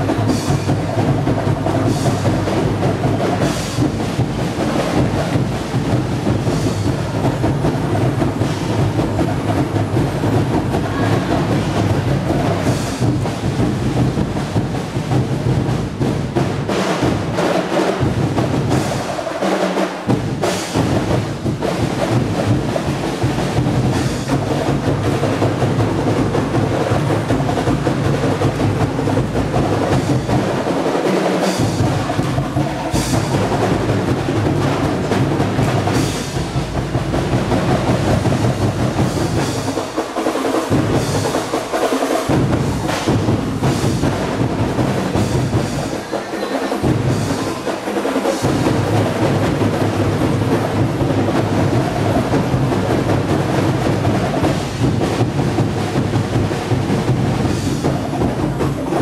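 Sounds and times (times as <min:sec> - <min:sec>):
drum ensemble playing fast rhythm: 0:00.0 - 0:59.0.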